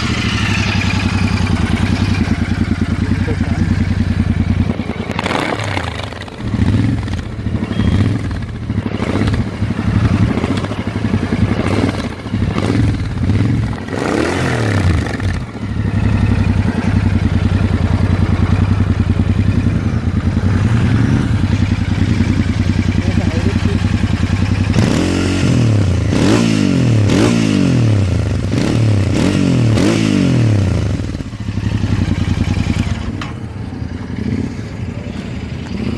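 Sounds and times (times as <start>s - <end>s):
motorcycle engine revving and idling: 0.0s - 35.9s.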